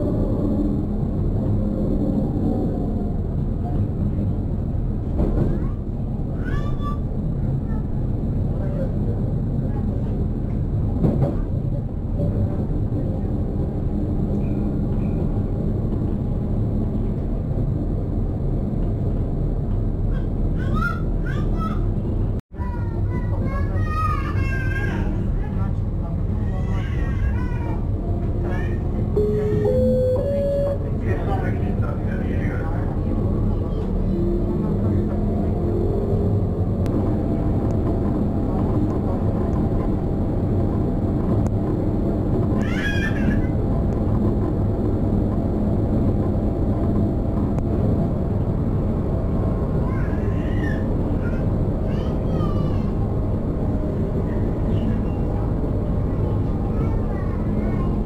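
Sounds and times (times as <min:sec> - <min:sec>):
tram running rumble: 0:00.0 - 0:58.0.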